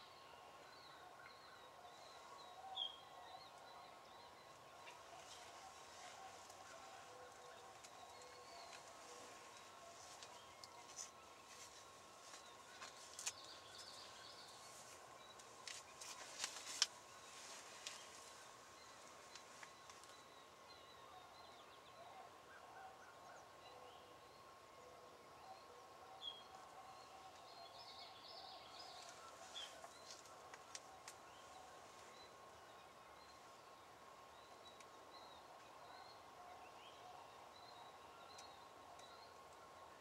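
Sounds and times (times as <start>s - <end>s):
faint steady tone: 0.0s - 40.0s.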